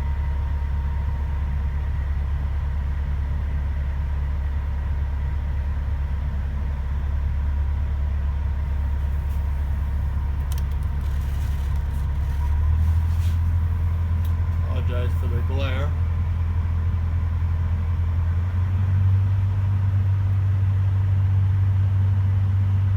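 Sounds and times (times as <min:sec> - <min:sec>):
diesel truck engine idling: 0:00.0 - 0:22.9.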